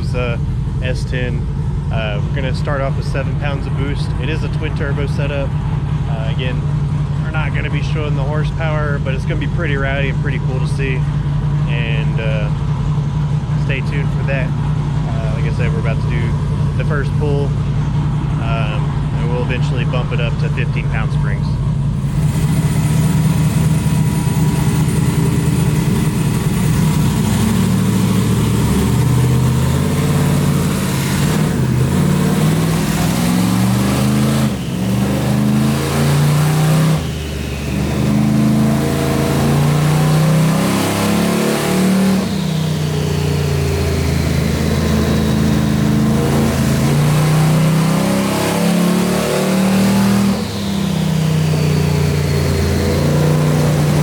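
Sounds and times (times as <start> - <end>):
turbocharged engine revving: 0.0 - 54.0.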